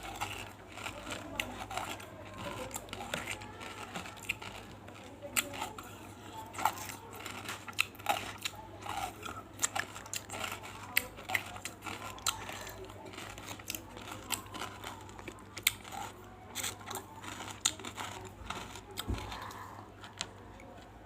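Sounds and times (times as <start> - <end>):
mouth crunching and chewing: 0.0 - 21.0.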